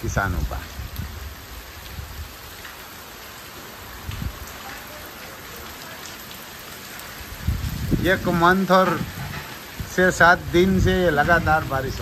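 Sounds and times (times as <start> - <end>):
heavy rain on standing water: 0.0 - 12.0.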